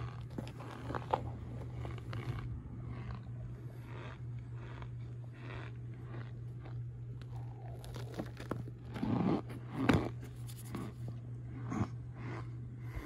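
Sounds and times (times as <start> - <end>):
cornstarch crunching and squeaking: 0.0 - 11.0.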